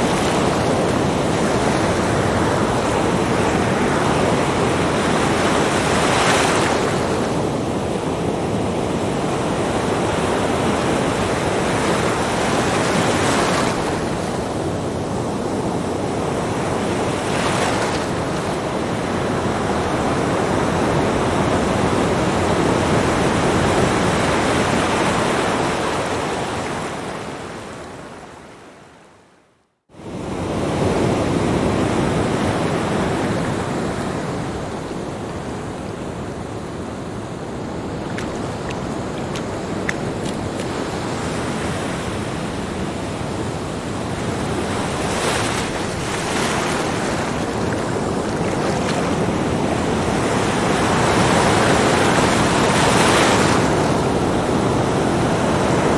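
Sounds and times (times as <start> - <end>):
waves breaking on beach: 0.0 - 28.2, 30.0 - 55.9.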